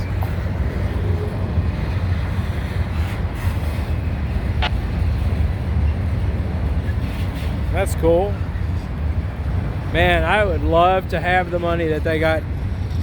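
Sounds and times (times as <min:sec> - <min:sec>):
freight train wheels rumbling: 0:00.0 - 0:13.0
wind buffeting microphone: 0:00.0 - 0:13.0.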